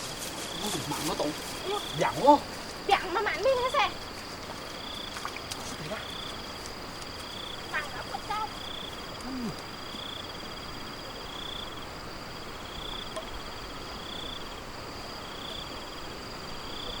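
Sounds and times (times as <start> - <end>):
insect high trill: 0.0 - 17.0
insect pulsed chirp: 0.0 - 17.0.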